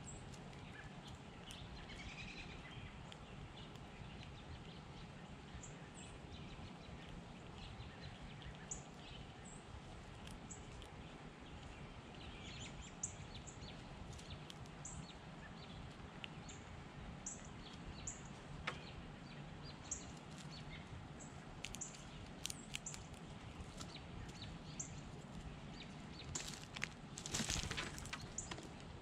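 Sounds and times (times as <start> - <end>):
low outdoor hum: 0.0 - 29.0
small birds chirping: 0.0 - 29.0.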